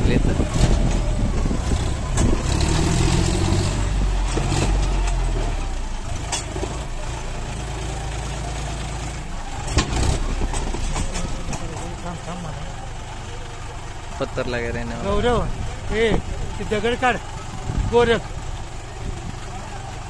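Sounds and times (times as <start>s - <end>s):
tractor engine running under load: 0.0s - 20.0s.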